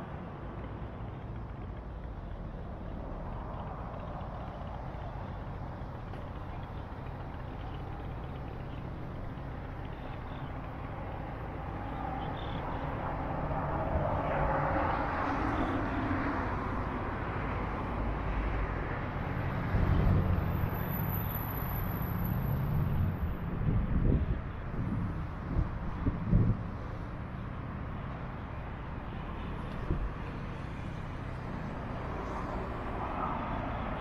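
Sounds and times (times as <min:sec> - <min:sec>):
deep traffic rumble: 0:00.0 - 0:34.0
highway traffic noise: 0:00.0 - 0:34.0.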